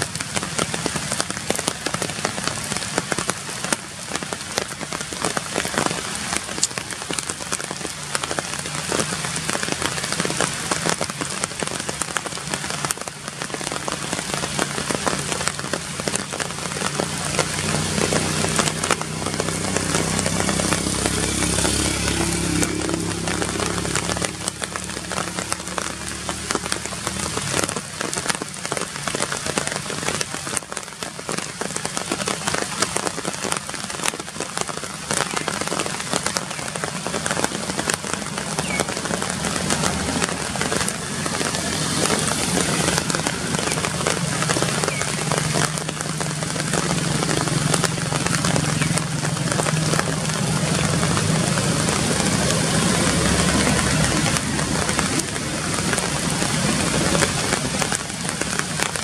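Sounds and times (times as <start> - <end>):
rain pattering on leaves: 0.0 - 59.0.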